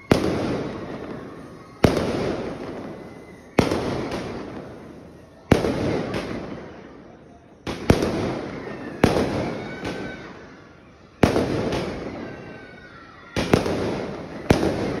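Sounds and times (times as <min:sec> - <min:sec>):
firework bangs: 0:00.0 - 0:15.0
firework crackle: 0:00.0 - 0:15.0.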